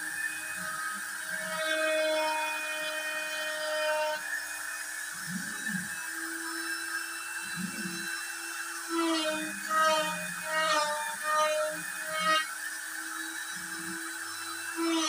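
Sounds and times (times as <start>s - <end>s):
router spindle high whine: 0.0s - 15.0s.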